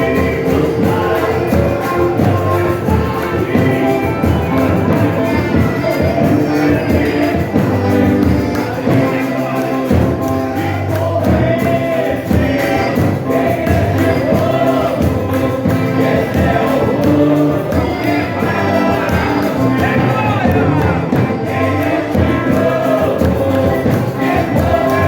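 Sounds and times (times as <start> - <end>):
group singing a hymn: 0.0 - 25.0
instrumental accompaniment: 0.0 - 25.0.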